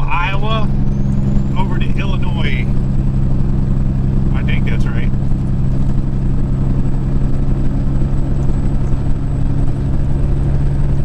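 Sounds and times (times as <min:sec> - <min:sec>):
diesel truck engine droning: 0:00.0 - 0:11.0
road noise: 0:00.0 - 0:11.0.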